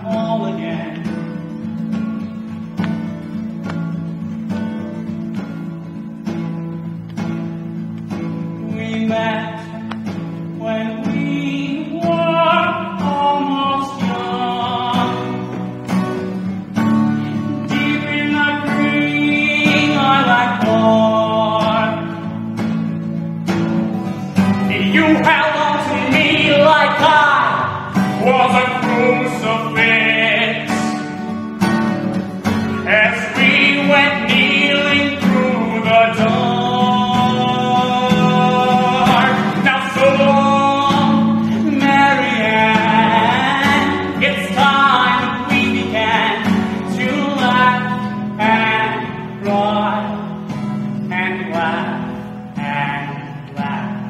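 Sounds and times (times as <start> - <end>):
man singing: 0.0 - 2.6, 7.7 - 22.9, 24.4 - 31.5, 32.4 - 54.0
strummed guitar chords: 0.0 - 54.0.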